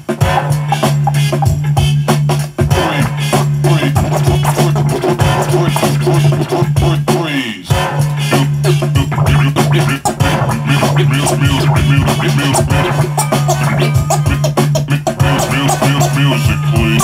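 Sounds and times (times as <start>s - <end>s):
vinyl record scratching: 0.0s - 17.0s.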